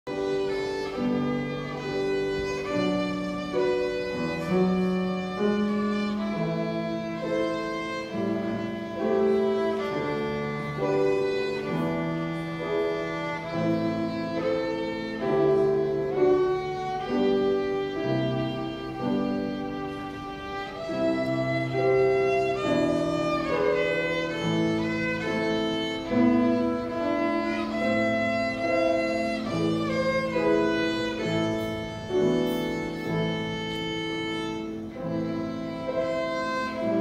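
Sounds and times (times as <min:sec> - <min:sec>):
piano accompaniment: 0:00.0 - 0:37.0
solo violin melody: 0:00.0 - 0:37.0.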